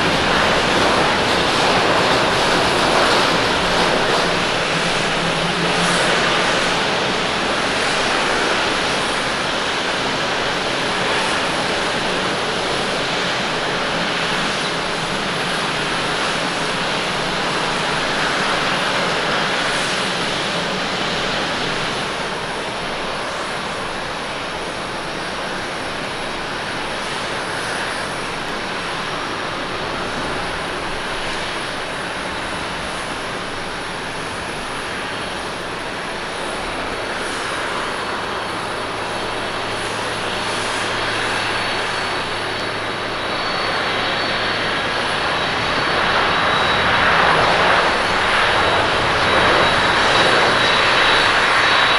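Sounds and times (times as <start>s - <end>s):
jet engines hissing and rumbling: 0.0s - 51.9s.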